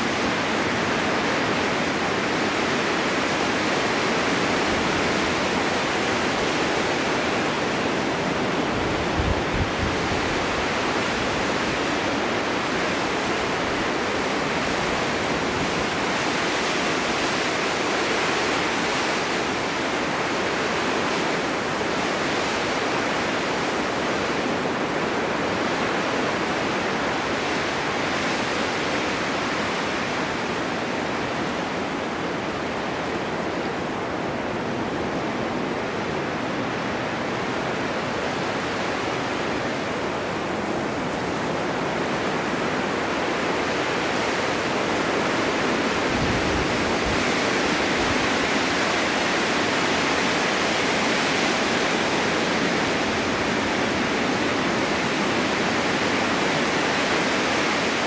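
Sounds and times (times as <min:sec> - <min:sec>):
snowstorm wind blowing: 0:00.0 - 0:58.0.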